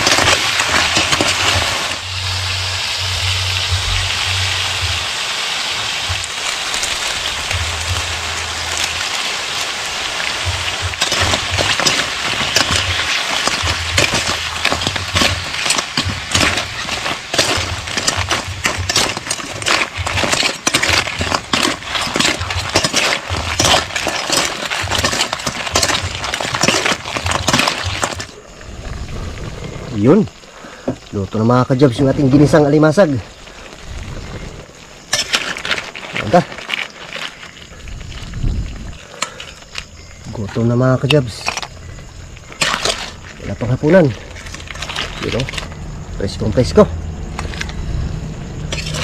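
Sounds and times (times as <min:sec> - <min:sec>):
crabs sizzling in a wok: 0:00.0 - 0:49.0.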